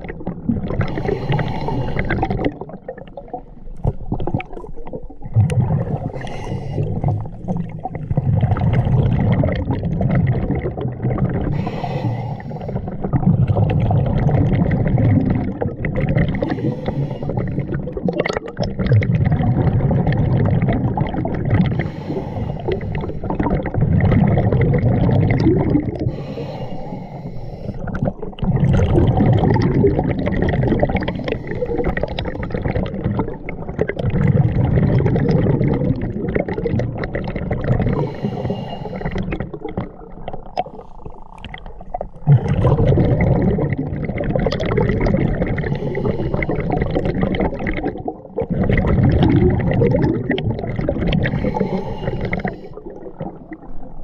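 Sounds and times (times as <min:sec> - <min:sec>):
diver exhaling bubbles underwater: 0:00.0 - 0:27.1, 0:27.7 - 0:54.0.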